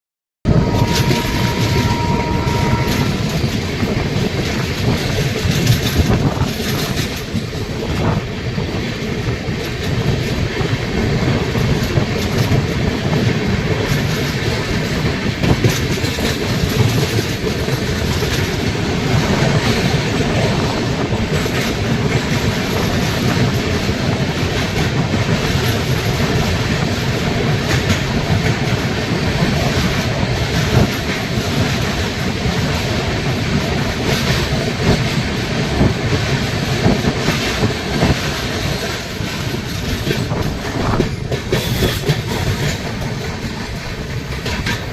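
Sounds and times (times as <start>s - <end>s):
train rumbling on rails: 0.4s - 44.9s.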